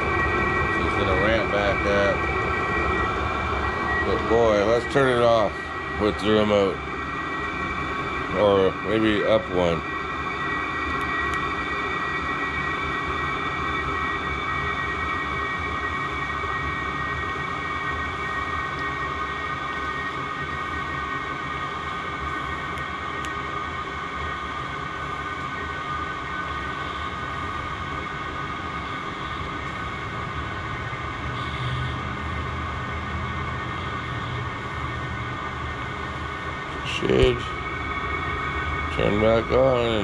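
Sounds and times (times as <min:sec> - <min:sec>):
blower fan whine: 0:00.0 - 0:40.0
heater low rumble: 0:00.0 - 0:40.0.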